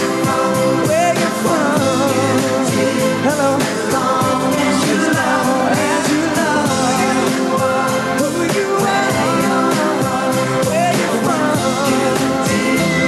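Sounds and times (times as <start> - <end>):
backing band with steady beat: 0.0 - 13.0
man singing into microphone: 0.0 - 13.0.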